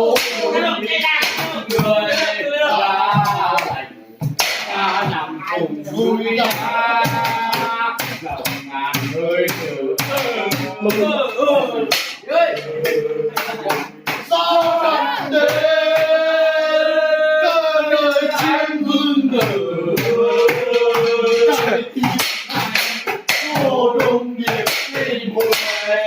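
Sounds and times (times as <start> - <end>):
sharp percussive beats: 0.0 - 26.0.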